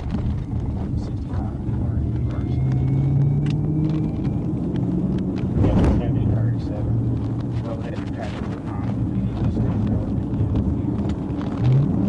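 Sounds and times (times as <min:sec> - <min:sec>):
car engine at high speed: 0:00.0 - 0:12.0
road rumble: 0:00.0 - 0:12.0.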